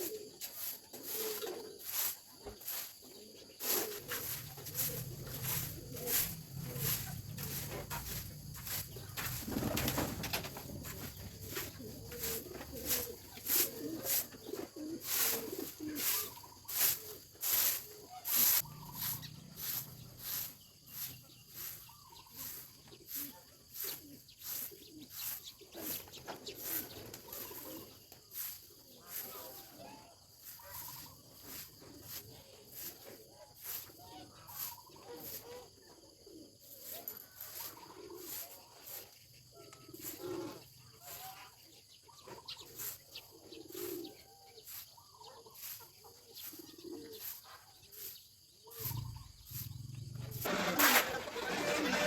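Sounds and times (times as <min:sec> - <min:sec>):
poultry murmuring calls: 0:00.0 - 0:52.0.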